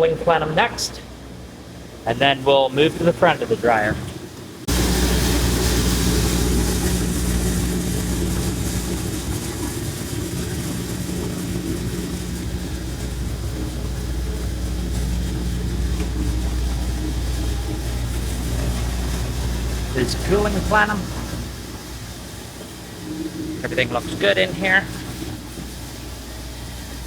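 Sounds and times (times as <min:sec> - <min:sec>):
machine drone with hiss: 0:00.0 - 0:27.0.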